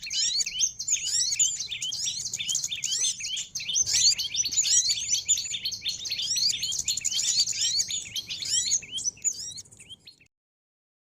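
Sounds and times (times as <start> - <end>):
songbirds chirping and twittering: 0.0 - 10.3.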